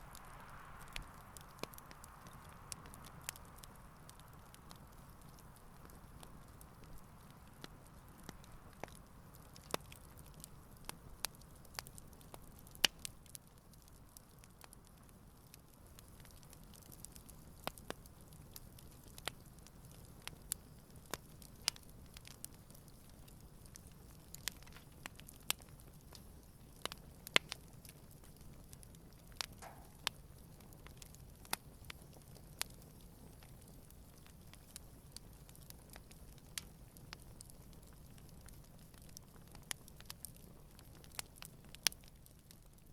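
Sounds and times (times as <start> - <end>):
campfire crackling and popping: 0.0 - 42.9
soft low fire hiss: 0.0 - 42.9.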